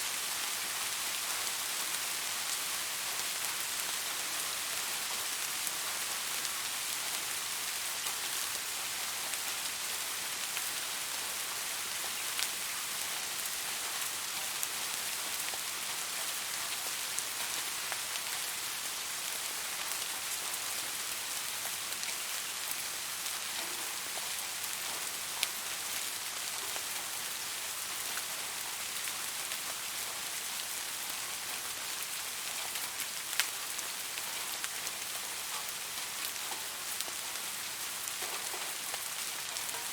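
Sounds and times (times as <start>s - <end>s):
rain hissing on surface: 0.0s - 39.9s.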